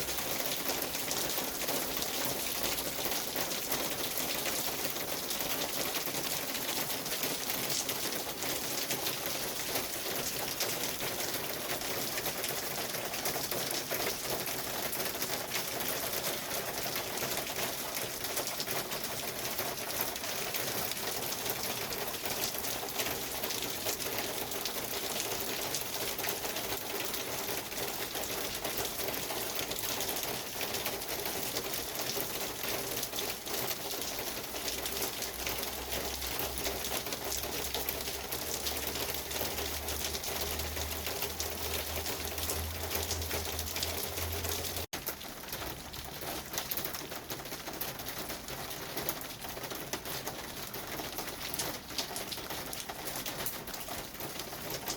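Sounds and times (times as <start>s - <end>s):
steady rain pattering: 0.0s - 54.9s.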